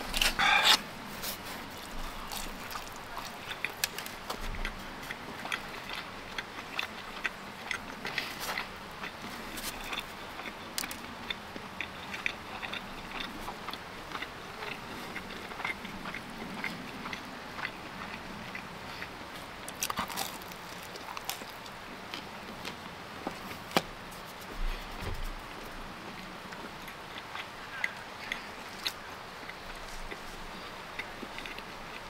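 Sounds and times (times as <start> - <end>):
person chewing: 0.0 - 23.6, 26.2 - 32.0.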